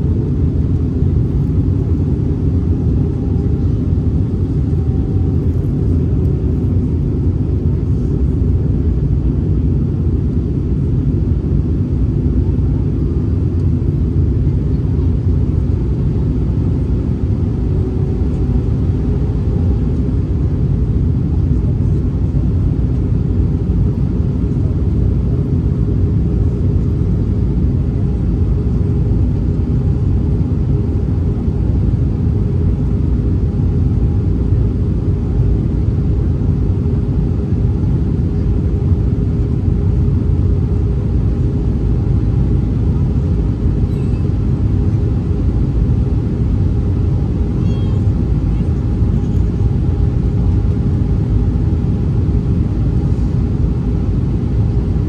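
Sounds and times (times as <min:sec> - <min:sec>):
airplane cabin rumble: 0:00.0 - 0:55.0
faint constant hum: 0:00.0 - 0:55.0.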